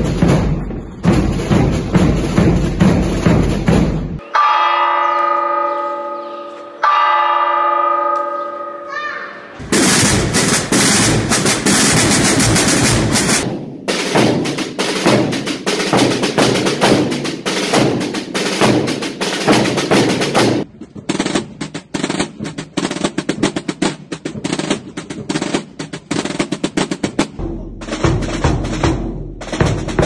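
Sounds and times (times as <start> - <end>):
snare drums drumming: 0.0 - 4.2, 9.6 - 30.0.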